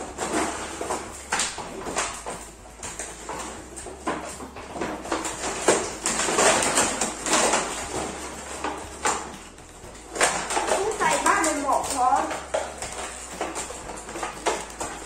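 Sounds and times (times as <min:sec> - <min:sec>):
packaging rustling and crinkling: 0:00.0 - 0:15.0
sharp plastic clacks: 0:00.2 - 0:15.0.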